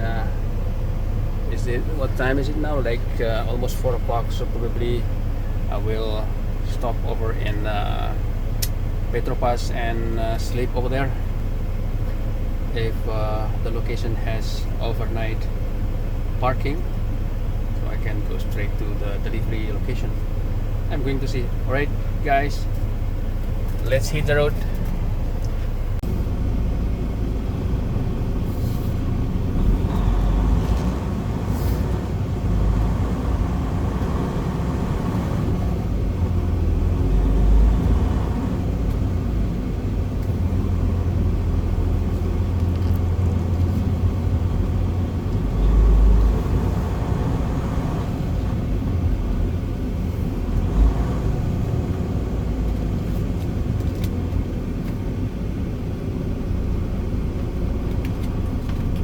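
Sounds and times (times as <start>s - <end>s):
truck diesel engine rumble: 0.0s - 59.0s.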